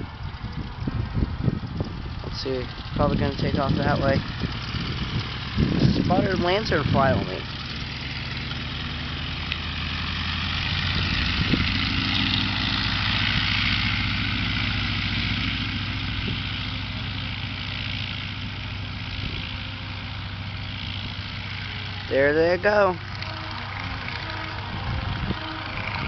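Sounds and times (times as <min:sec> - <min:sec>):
low engine drone: 0:00.0 - 0:26.0.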